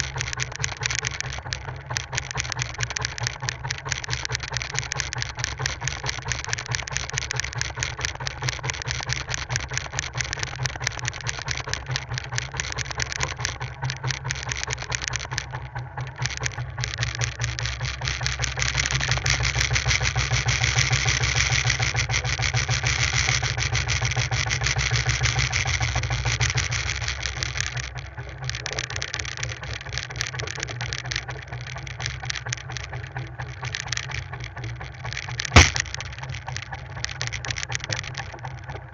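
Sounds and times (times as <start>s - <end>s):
boat engine running steadily: 0.0s - 38.9s.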